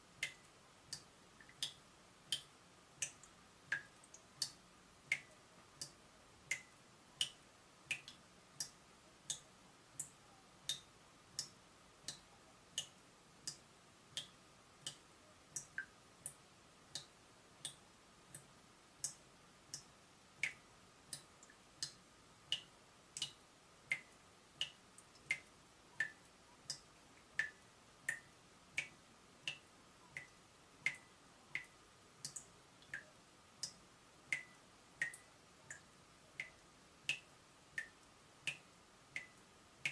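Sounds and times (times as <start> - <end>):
water dripping from a tap: 0.2 - 39.9.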